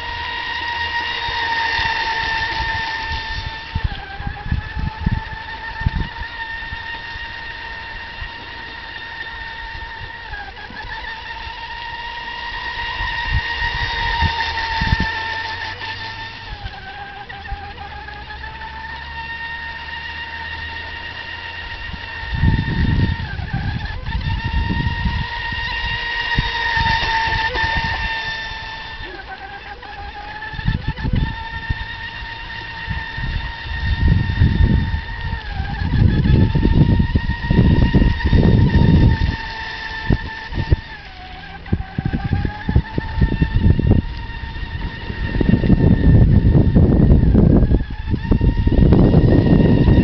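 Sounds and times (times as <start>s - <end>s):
toy boat motor whine: 0.0s - 50.0s
wind buffeting microphone: 0.0s - 50.0s.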